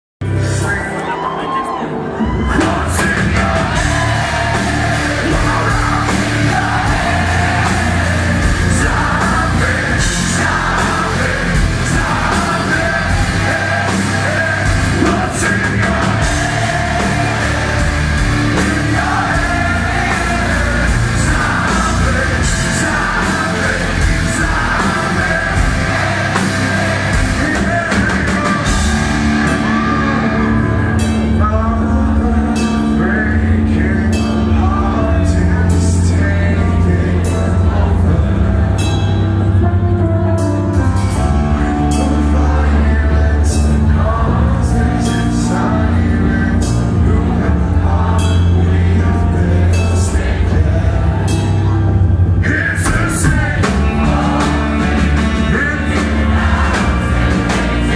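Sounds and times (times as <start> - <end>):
heavy rock band playing live: 0.2 - 57.9
man singing: 0.3 - 57.9.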